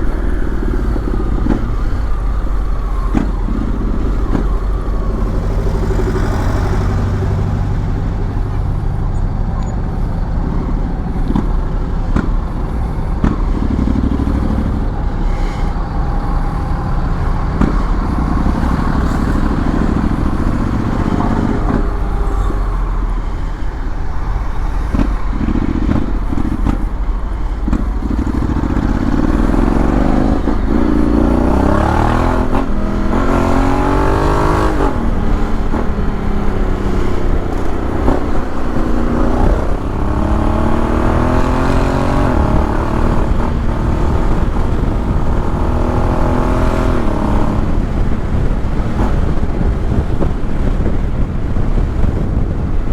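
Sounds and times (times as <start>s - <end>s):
heavy wind noise: 0.0s - 52.9s
motorcycle engine accelerating: 0.0s - 52.9s.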